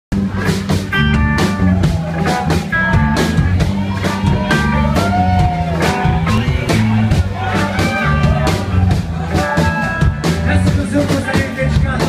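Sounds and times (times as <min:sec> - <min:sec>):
bass guitar: 0:00.1 - 0:12.0
drum kit beat: 0:00.1 - 0:12.0
electric guitar: 0:00.2 - 0:12.0.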